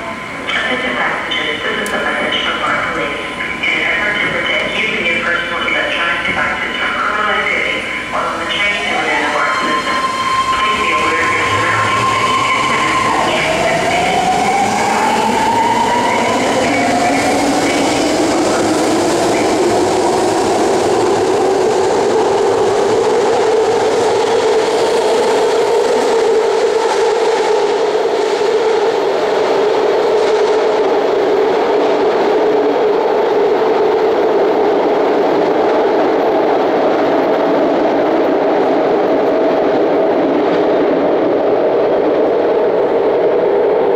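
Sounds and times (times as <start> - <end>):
train electric propulsion whine: 0.0 - 43.9
train hum and rumble in tunnel: 0.0 - 43.9.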